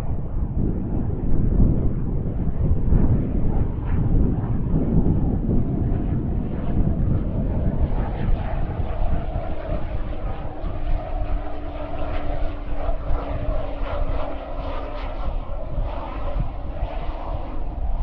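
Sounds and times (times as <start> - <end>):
propeller plane engine hum: 0.0 - 18.0
wind rumble on microphone: 0.0 - 18.0.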